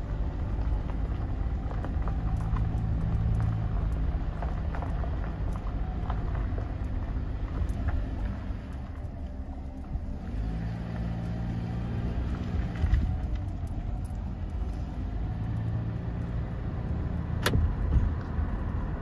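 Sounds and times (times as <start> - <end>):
engine and tyre hum inside car: 0.0 - 19.0.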